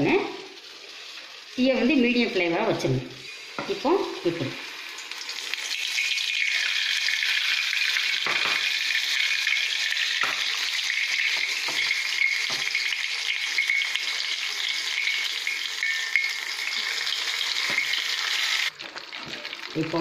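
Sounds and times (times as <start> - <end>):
deep-frying sizzle in hot oil: 0.0 - 20.0.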